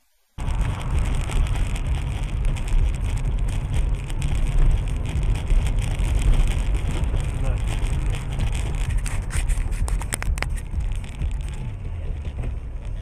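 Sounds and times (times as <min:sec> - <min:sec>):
moving car rumble and hiss: 0:00.2 - 0:13.0.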